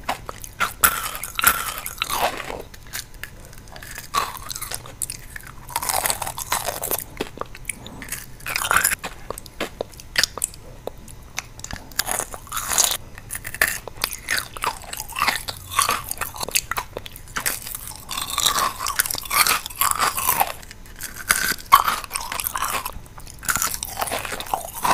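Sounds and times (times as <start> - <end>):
candy crunching: 0.0 - 24.9
wet chewing: 0.0 - 24.9.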